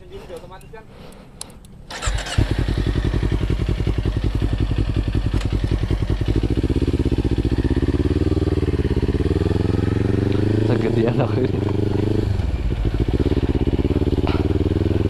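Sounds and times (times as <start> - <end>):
motorcycle engine starting: 1.7 - 15.0
motorcycle engine idling: 1.9 - 15.0.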